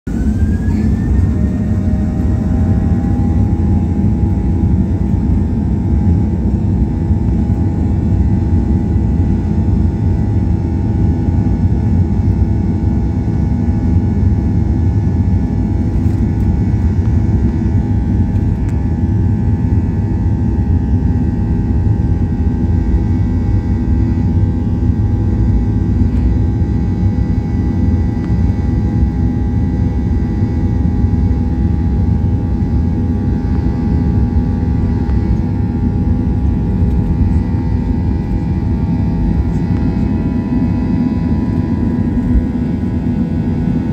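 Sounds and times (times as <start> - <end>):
jet engine whine: 0.0 - 43.9
jet engines rumbling: 0.1 - 43.9.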